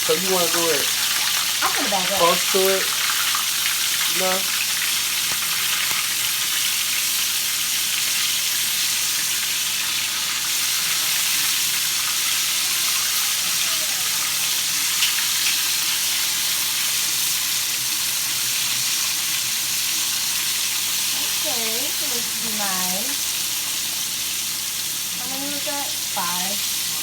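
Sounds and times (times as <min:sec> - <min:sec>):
chicken frying in hot oil: 0:00.0 - 0:27.0.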